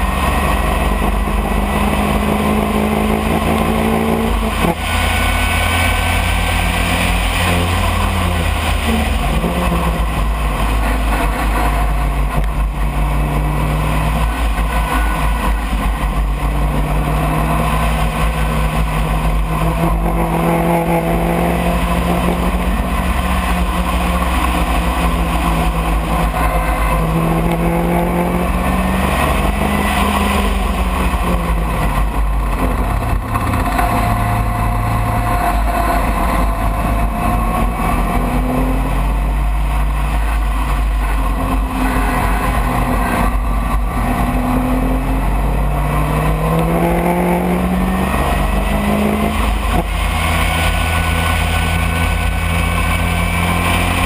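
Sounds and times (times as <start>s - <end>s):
racing car engine revving: 0.0s - 54.0s
wind rush: 0.0s - 54.0s.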